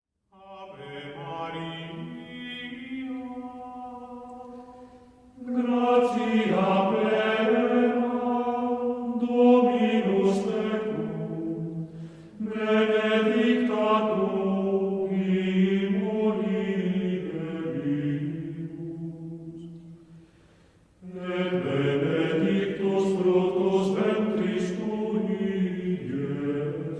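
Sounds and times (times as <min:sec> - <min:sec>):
voices chanting sacred chant: 0:00.3 - 0:20.2, 0:21.0 - 0:26.9.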